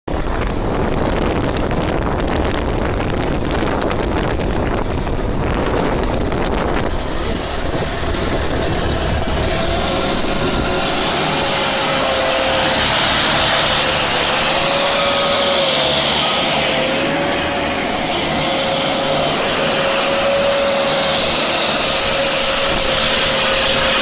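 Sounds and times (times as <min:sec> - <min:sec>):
engine rumble: 0:00.1 - 0:24.0
steady motor whine: 0:00.1 - 0:24.0
wind buffeting microphone: 0:00.1 - 0:24.0.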